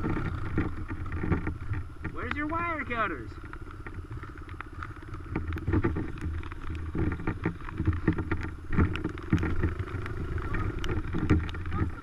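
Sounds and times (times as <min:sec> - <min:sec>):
irregular clicks and knocks: 0:00.0 - 0:02.8, 0:03.4 - 0:12.0
dirt bike engine idling: 0:00.0 - 0:12.0.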